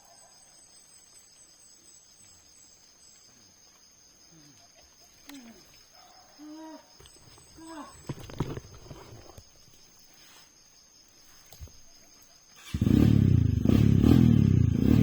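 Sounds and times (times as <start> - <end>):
crickets chirring: 0.0 - 13.7.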